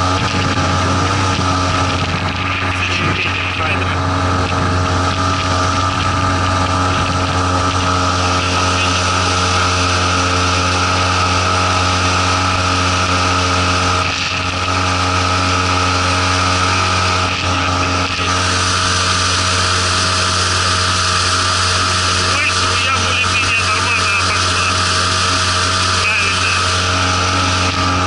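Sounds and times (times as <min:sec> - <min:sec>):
outboard motor running under load: 0:00.0 - 0:28.0
wind and water rushing: 0:00.0 - 0:28.0.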